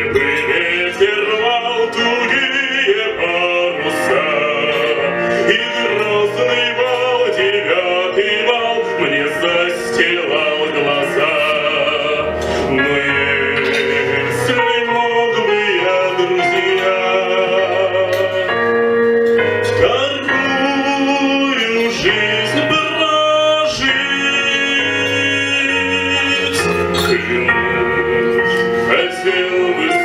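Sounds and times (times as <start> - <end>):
man singing operatically: 0.0 - 19.0, 19.7 - 30.0
instrumental accompaniment: 0.0 - 30.0.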